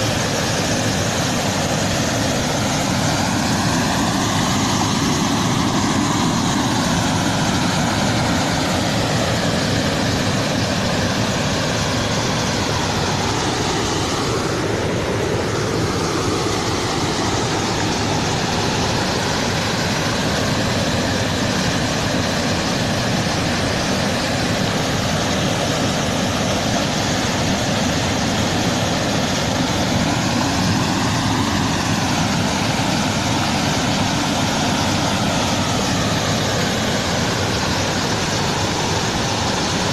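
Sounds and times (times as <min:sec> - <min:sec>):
floodwater pouring over a dam: 0:00.0 - 0:39.9.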